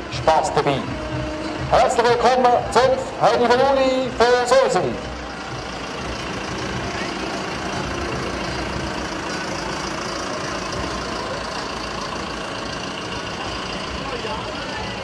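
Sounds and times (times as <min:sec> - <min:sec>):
crowd chatter: 0:00.0 - 0:15.0
tractor engine running: 0:00.0 - 0:15.0.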